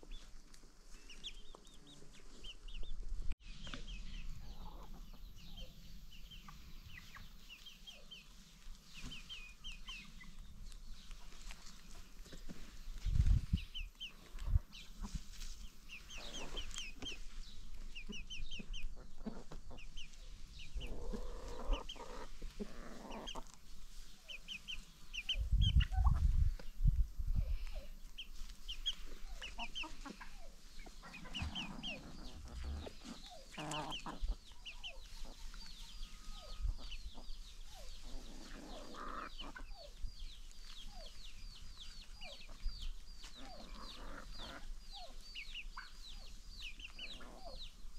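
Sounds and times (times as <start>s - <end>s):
chickens clucking softly: 0.0s - 47.9s.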